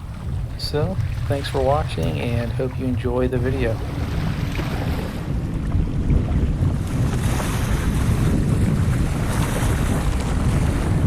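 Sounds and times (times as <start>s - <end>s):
choppy water washing: 0.0s - 11.0s
wind buffeting microphone: 0.0s - 11.0s.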